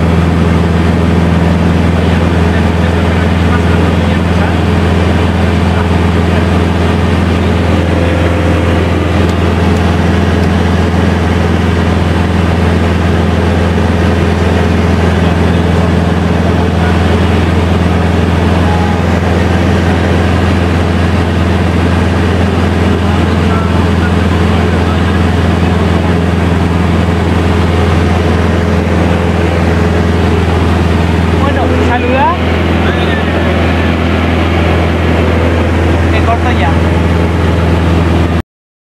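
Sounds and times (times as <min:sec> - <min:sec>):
plane engine and propeller drone: 0:00.0 - 0:38.4.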